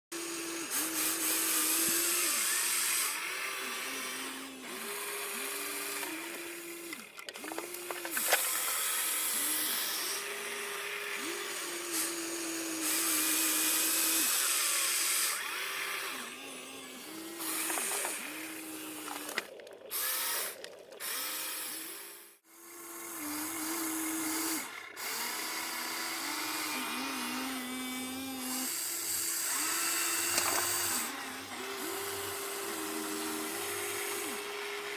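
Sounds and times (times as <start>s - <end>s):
small electric motors whining: 0.1s - 34.9s
steady grinding noise: 0.2s - 34.9s.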